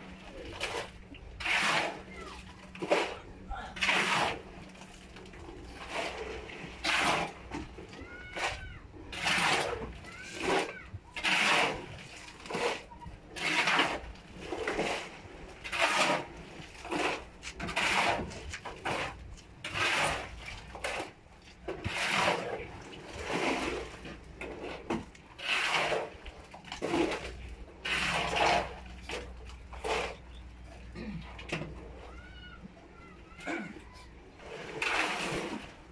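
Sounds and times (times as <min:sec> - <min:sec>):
shovels scraping wet concrete: 0:00.0 - 0:31.0, 0:34.4 - 0:35.9.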